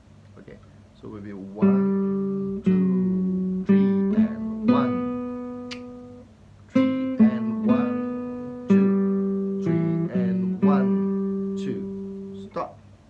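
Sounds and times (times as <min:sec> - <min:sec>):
nylon-string guitar melody: 0:01.4 - 0:12.7.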